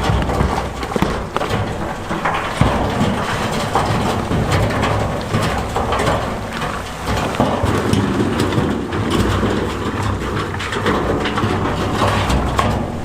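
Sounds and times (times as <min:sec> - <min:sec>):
stones clattering and grinding: 0:00.0 - 0:13.0.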